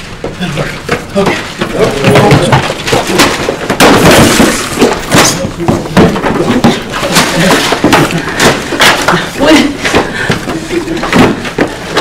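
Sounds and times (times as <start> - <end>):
objects crashing on hard floor: 0.9 - 12.0.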